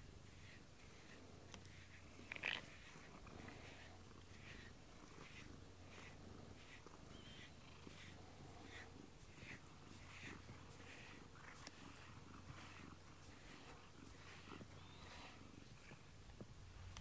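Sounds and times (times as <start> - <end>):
brush strokes on fur: 0.0 - 17.0
cat purring: 0.2 - 16.4.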